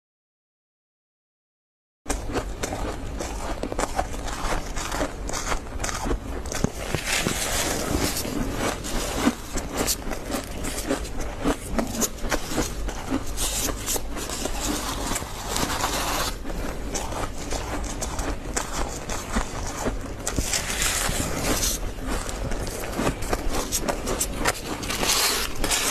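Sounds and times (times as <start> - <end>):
crunching and chewing frost: 2.1 - 25.9.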